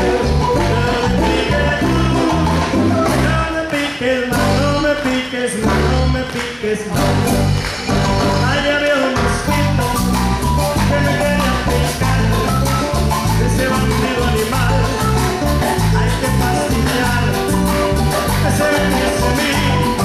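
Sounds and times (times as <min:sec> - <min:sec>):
marimba: 0:00.0 - 0:03.7, 0:06.9 - 0:20.0
repeating bass line: 0:00.0 - 0:05.0, 0:05.6 - 0:06.3, 0:06.9 - 0:20.0
live band playing latin dance music: 0:00.0 - 0:20.0.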